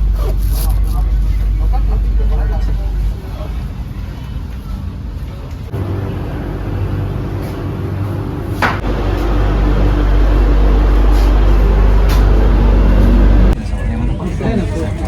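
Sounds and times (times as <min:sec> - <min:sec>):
low rumble: 0:00.0 - 0:15.0
train cabin mechanical hum: 0:00.0 - 0:15.0.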